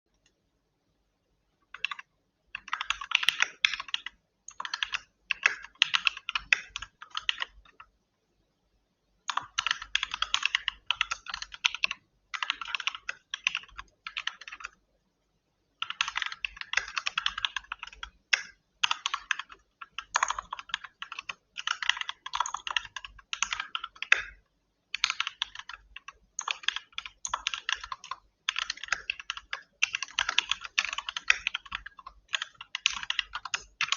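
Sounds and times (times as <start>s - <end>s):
fast typing on a keyboard: 1.7s - 7.9s, 9.3s - 14.8s, 15.8s - 33.9s.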